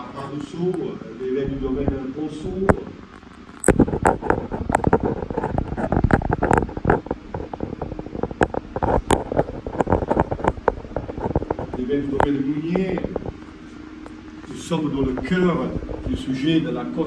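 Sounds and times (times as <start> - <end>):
rustling: 0.1 - 16.3
rapid irregular knocks: 1.5 - 16.1.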